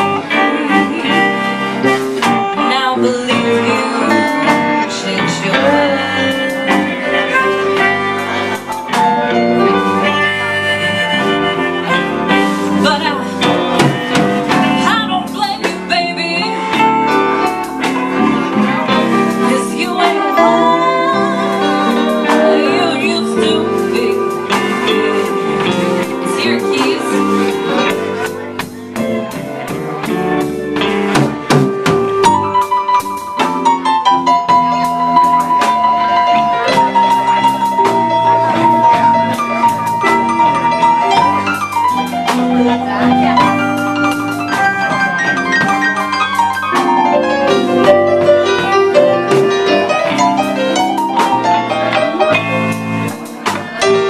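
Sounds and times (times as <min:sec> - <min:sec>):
electric guitar bent notes: 0:00.0 - 0:54.0
live blues band playing: 0:00.0 - 0:54.0.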